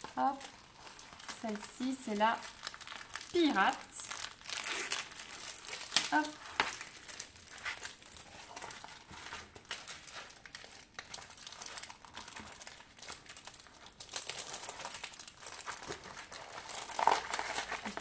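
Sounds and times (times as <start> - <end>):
plastic film and paper crinkling: 0.0 - 18.0.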